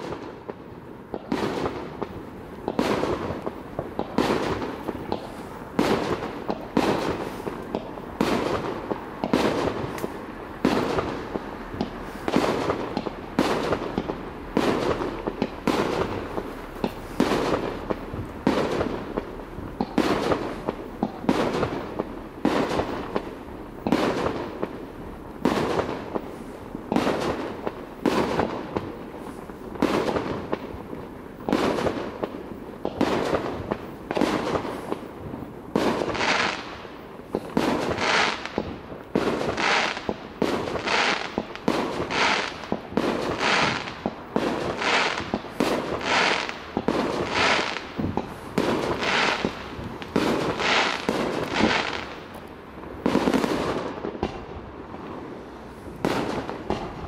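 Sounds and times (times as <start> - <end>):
fireworks bursting with echo: 0.0 - 57.0.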